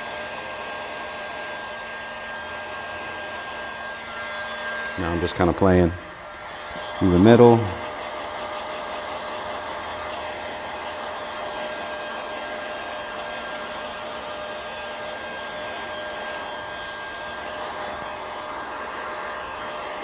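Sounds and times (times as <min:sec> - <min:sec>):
heat gun blowing: 0:00.0 - 0:20.0.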